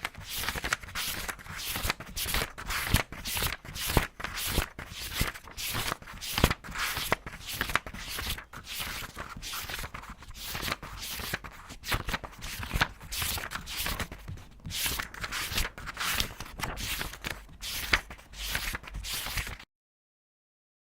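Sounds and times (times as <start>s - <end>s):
paper pages turning: 0.0s - 19.6s.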